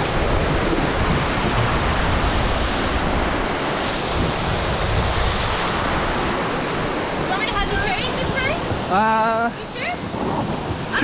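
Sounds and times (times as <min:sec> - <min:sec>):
river rapids rushing: 0:00.0 - 0:11.0
wind buffeting microphone: 0:00.0 - 0:11.0.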